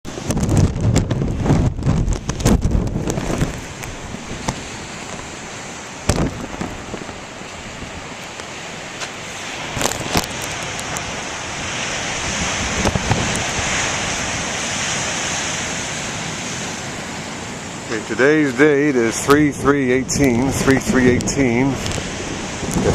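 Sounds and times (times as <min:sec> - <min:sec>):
wind buffeting microphone: 0:00.0 - 0:22.9
ocean waves breaking ashore: 0:00.1 - 0:22.9.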